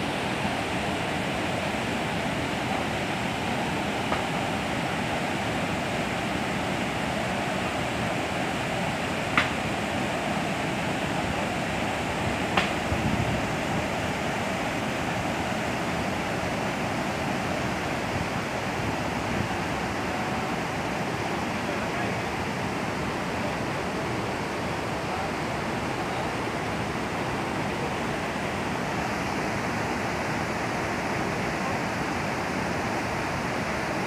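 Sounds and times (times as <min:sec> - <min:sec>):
water rushing over weir: 0:00.0 - 0:34.0.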